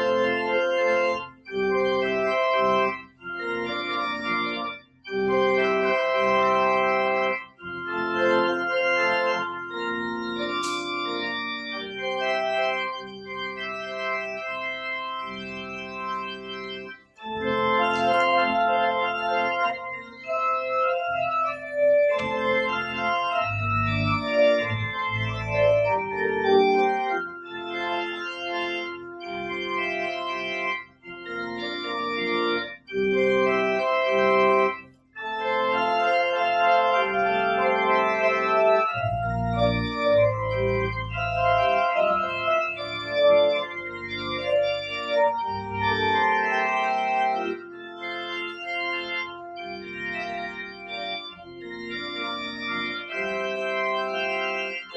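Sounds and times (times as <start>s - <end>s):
deep organ pedal bass notes: 0.0s - 54.9s
pipe organ chords: 0.0s - 54.9s.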